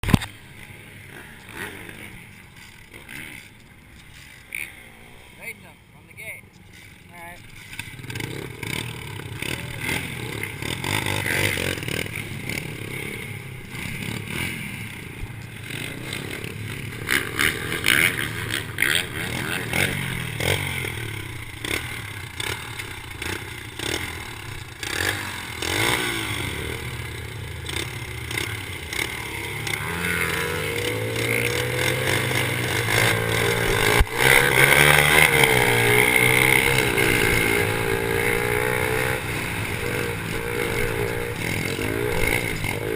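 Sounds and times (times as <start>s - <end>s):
small motorbike engines revving: 0.0s - 42.9s.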